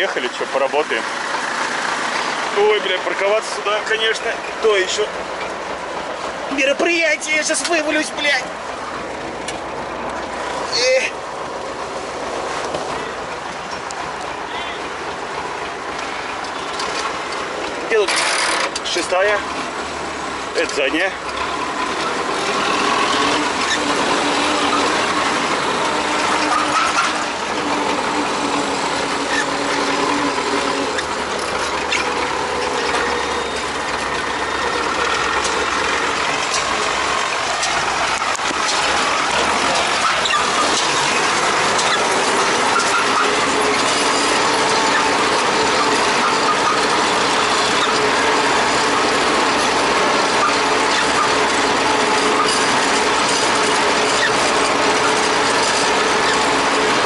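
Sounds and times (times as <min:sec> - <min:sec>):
rattle and clatter of gears: 0:00.0 - 0:57.0
tractor engine running: 0:00.0 - 0:57.0.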